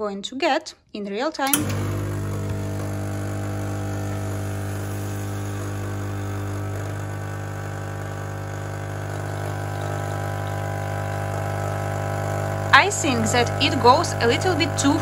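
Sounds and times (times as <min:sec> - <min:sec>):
espresso machine pump humming: 0:01.5 - 0:15.0.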